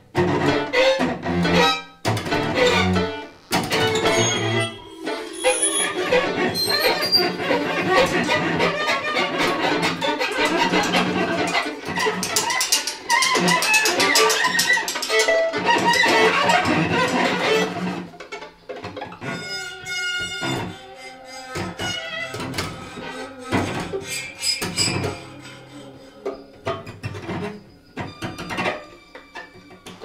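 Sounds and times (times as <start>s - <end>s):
string ensemble improvising: 0.1s - 30.0s.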